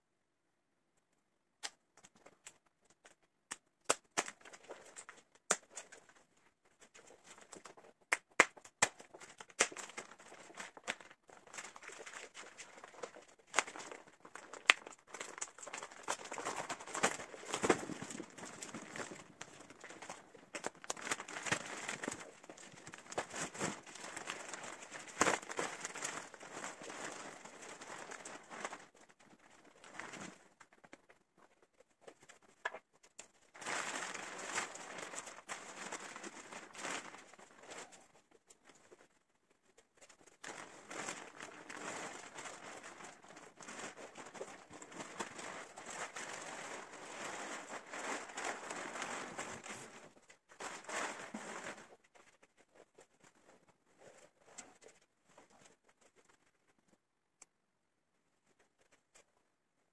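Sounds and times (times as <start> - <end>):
plastic wrapping rustling and crinkling: 2.0 - 57.0.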